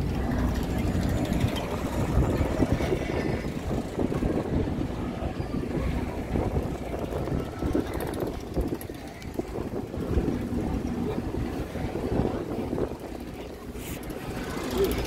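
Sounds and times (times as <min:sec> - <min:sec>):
fair ride rumbling: 0:00.0 - 0:15.0
wind buffeting microphone: 0:00.0 - 0:15.0.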